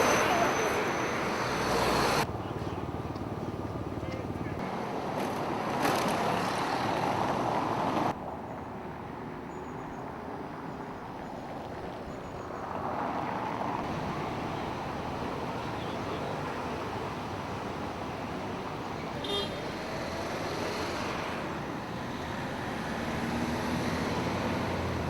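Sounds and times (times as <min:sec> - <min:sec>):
passing vehicles rushing: 0:00.0 - 0:09.4, 0:11.6 - 0:25.0.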